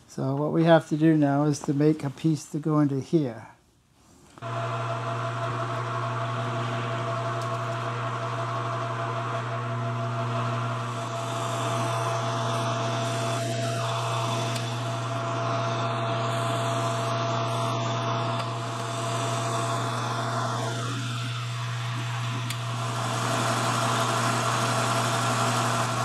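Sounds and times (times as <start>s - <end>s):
machine tool motor humming: 4.4s - 26.0s.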